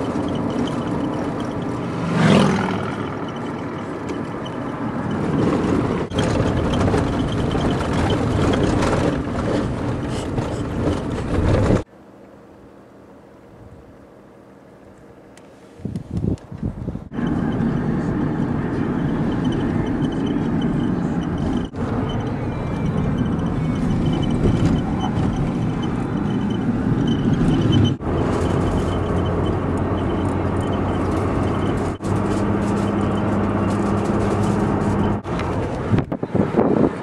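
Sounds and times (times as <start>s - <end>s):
tyre and wind noise: 0.0s - 11.9s, 15.8s - 17.6s, 18.4s - 37.0s
van engine hum: 0.0s - 37.0s.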